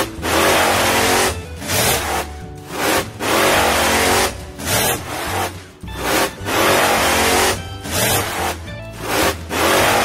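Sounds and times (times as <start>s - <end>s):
background music: 0.0s - 10.0s
car engine revving: 0.0s - 10.0s.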